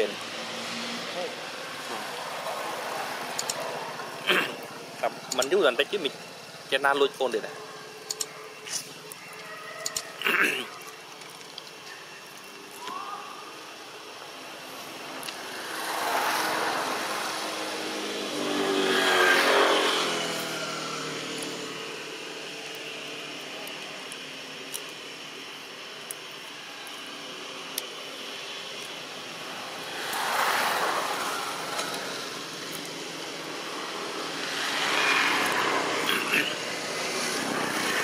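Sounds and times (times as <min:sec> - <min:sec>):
motor vehicles passing by: 0:00.0 - 0:11.8, 0:12.6 - 0:38.0.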